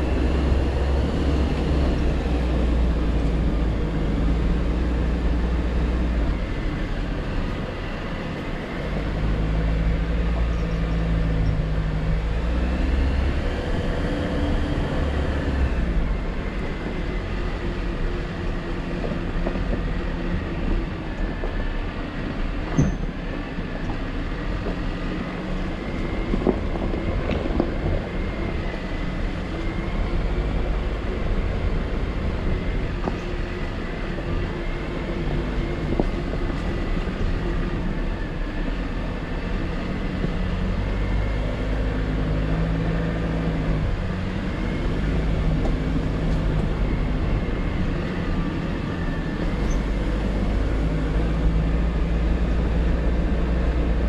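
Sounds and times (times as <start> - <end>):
car engine rumbling at low speed: 0.0 - 54.0.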